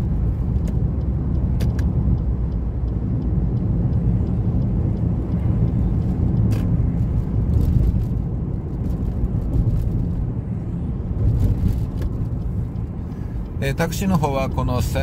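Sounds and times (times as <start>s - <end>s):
car interior engine and tyre noise: 0.0s - 15.0s.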